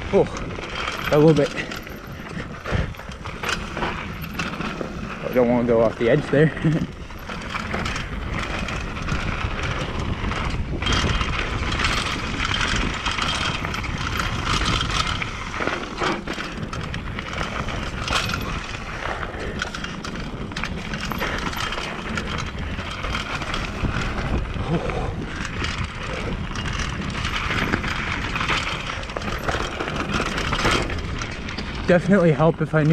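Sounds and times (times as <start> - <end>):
bike rattling: 0.0 - 32.9
tyres rolling on dirt: 0.0 - 32.9.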